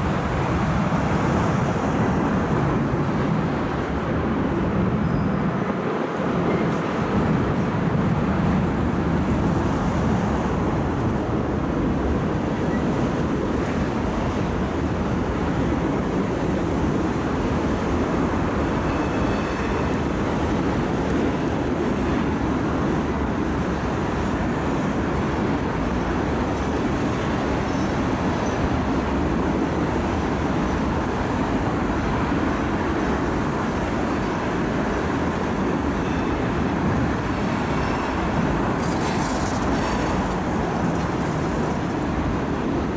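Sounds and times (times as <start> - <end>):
train cars rolling on rails: 0.0 - 42.9.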